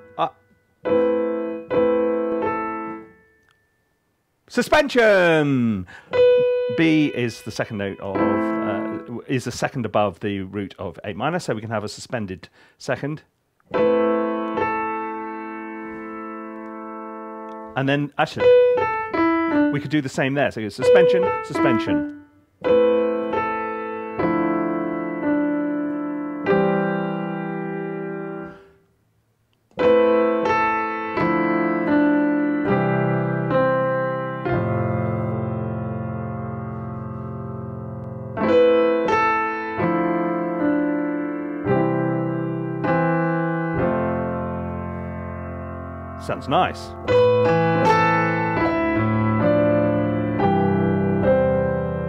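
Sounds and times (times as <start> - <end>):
slow piano melody with chords: 0.0 - 4.2, 6.0 - 9.3, 13.6 - 20.0, 20.8 - 29.0, 29.7 - 52.0.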